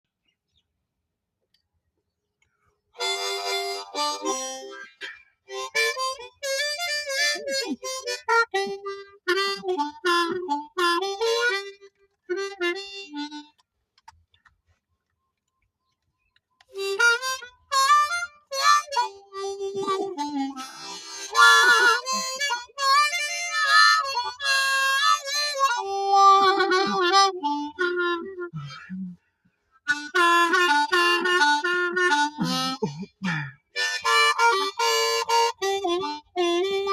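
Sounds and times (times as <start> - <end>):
harmonica melody: 3.0 - 13.6, 16.6 - 36.9.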